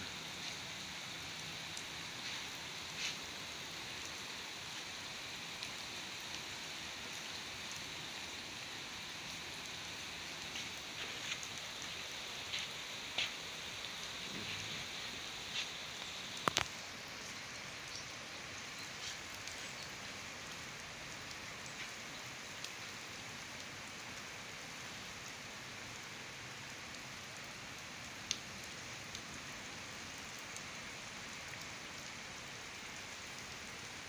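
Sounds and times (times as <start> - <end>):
torrential rain on standing water: 0.0 - 34.0.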